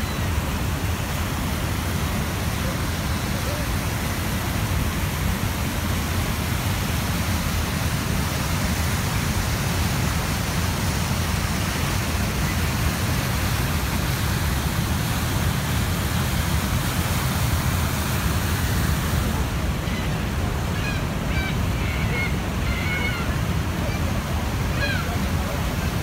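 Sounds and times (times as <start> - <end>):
river rapids roaring: 0.0 - 26.0.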